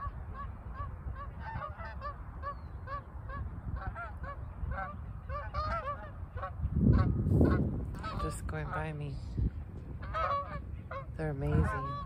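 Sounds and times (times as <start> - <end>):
geese calling: 0.0 - 9.1, 10.0 - 12.0.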